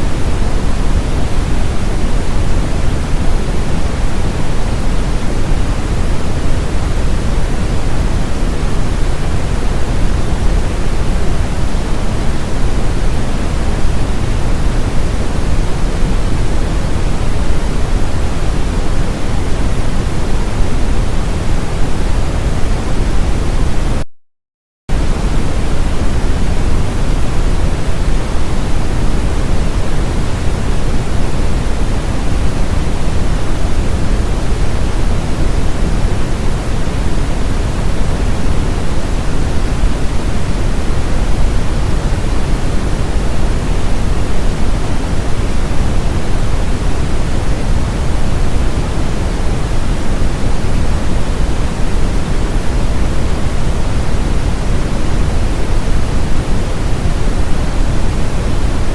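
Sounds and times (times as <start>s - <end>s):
brown noise: 0.0s - 24.0s, 24.9s - 58.9s.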